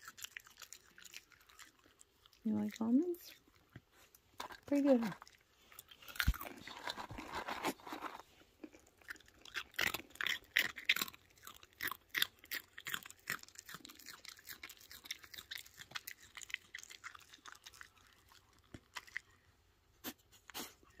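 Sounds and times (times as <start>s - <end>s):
fox chewing nuts: 0.0s - 20.9s.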